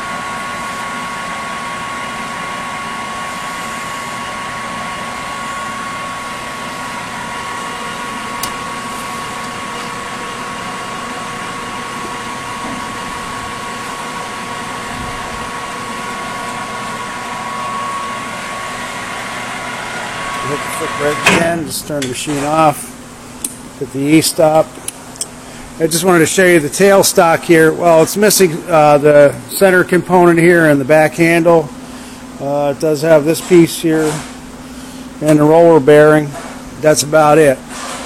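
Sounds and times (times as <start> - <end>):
lathe whirring with whine: 0.0 - 38.0.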